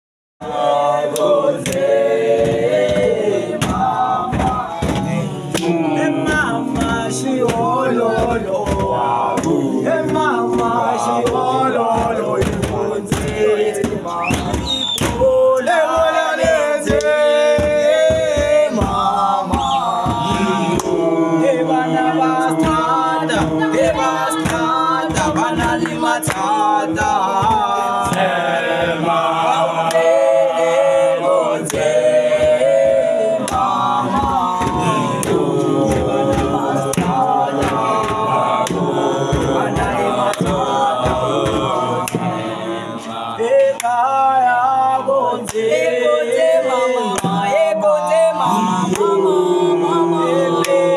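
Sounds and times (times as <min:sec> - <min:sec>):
sharp beats keeping time: 0:00.4 - 0:44.4
men singing a cappella harmony: 0:00.4 - 0:50.9.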